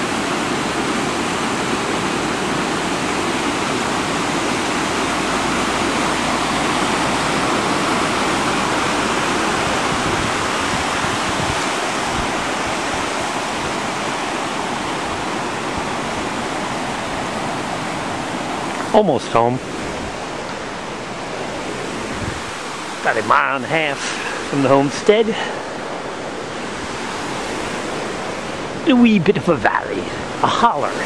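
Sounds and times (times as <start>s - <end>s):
water rushing over rocks: 0.0s - 31.0s.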